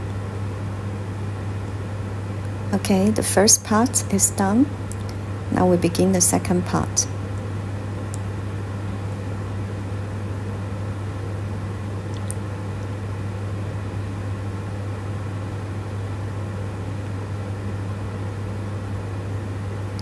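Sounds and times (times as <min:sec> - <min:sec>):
low hum with hiss: 0:00.0 - 0:20.0.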